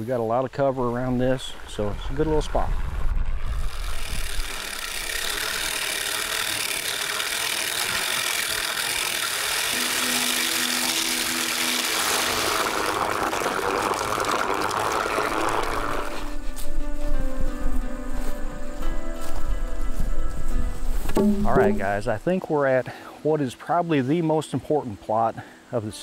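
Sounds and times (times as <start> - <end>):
continuous hiss: 0.0 - 26.0.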